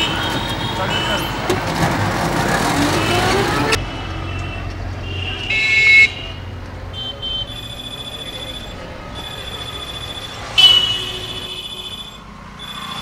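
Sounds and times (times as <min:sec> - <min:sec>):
vehicle horn toots: 0:00.0 - 0:01.5, 0:02.9 - 0:12.2.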